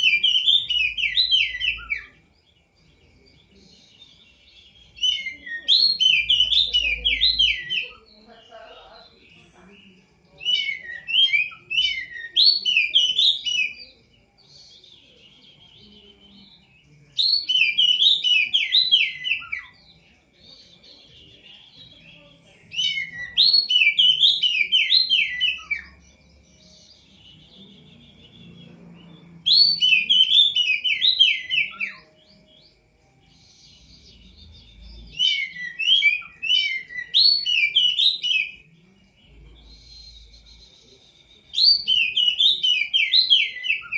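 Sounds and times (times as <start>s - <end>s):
songbird whistling: 0.0s - 2.3s, 3.6s - 8.2s, 10.4s - 22.0s, 22.7s - 43.9s.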